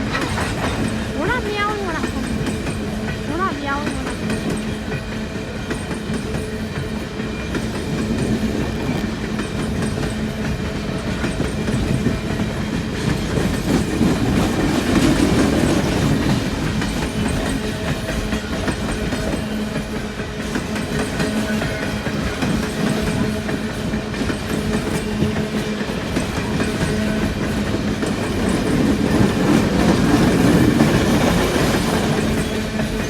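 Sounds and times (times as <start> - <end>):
train wheels clacking over rail joints: 0.0 - 33.0.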